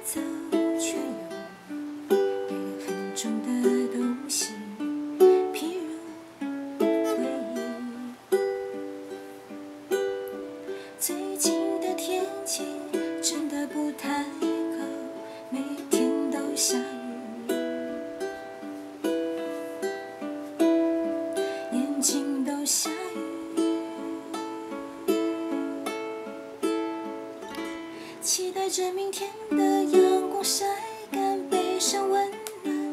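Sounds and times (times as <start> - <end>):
ukulele strumming: 0.0 - 32.9.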